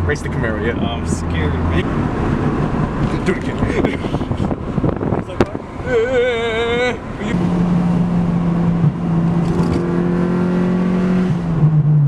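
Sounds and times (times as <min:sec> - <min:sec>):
car engine revving high: 0:00.1 - 0:12.0.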